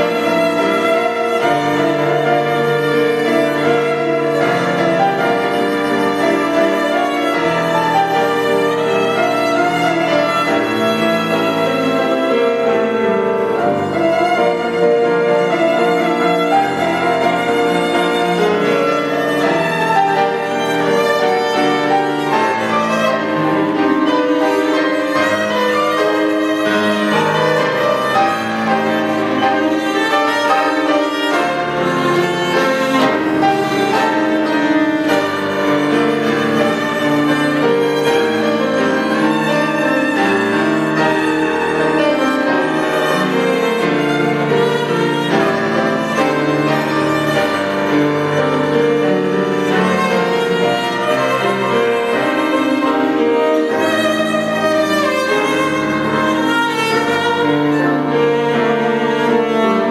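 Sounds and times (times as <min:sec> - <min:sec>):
cello melody: 0:00.0 - 0:59.9
piano accompaniment: 0:00.0 - 0:59.9.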